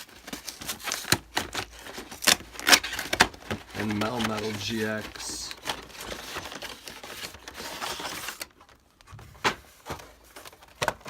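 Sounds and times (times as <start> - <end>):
packaging rustling: 0.0 - 9.0, 9.6 - 11.0.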